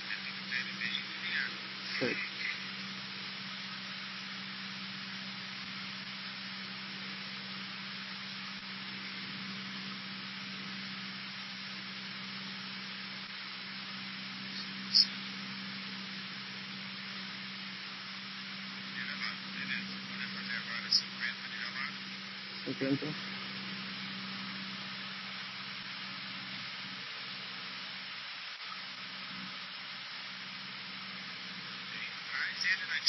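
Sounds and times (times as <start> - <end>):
aircraft cabin engine noise: 0.0 - 33.0.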